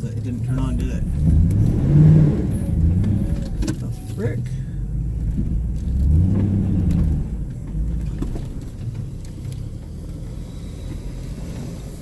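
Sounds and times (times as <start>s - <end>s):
engine revving: 0.0s - 12.0s
tires spinning: 0.0s - 12.0s.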